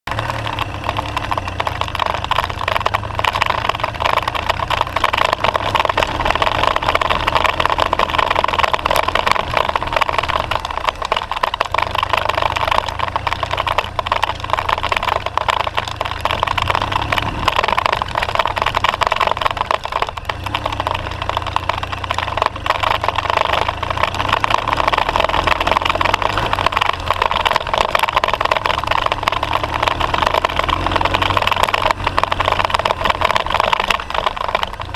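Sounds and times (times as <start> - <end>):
motorcycle engine under load: 0.0 - 34.9
rough rumble on gravel: 0.0 - 34.9.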